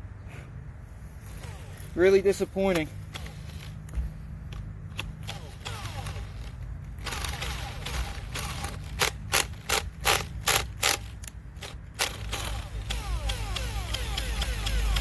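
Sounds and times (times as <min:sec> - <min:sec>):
sharp mechanical clicks of a drill: 0:02.7 - 0:15.0.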